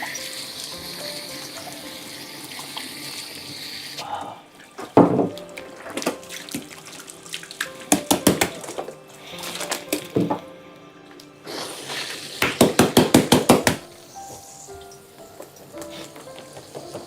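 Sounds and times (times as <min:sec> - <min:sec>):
water running from a tap: 0:00.0 - 0:04.0, 0:04.7 - 0:09.8, 0:11.5 - 0:17.0.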